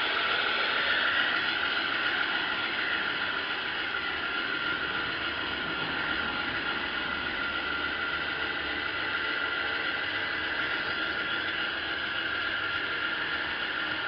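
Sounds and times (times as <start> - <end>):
model locomotive motor whirring: 0.0 - 14.0
wheels running on rails: 0.0 - 14.0.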